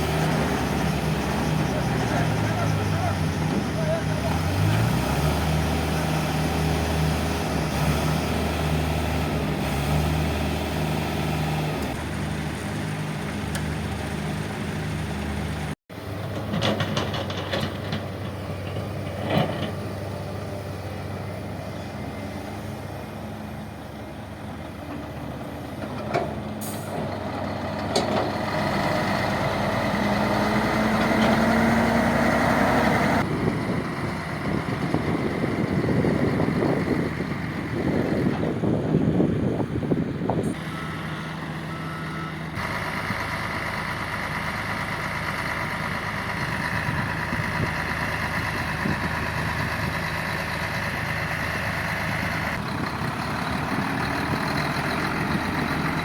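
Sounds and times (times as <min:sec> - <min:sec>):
heavy diesel machinery engines: 0:00.0 - 0:56.0.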